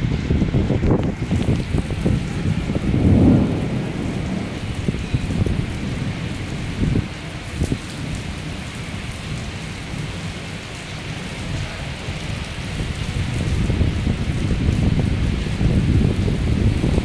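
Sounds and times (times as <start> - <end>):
rain falling on flat roof: 0.0 - 17.0.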